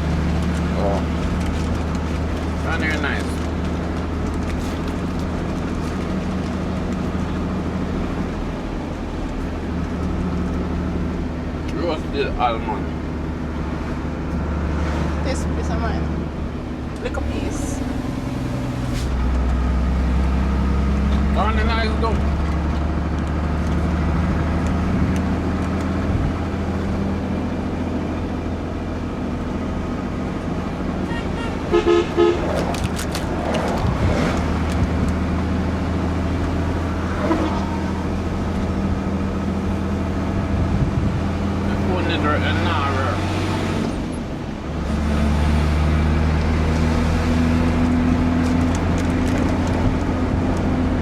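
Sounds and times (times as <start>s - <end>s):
truck engine droning: 0.0s - 51.0s.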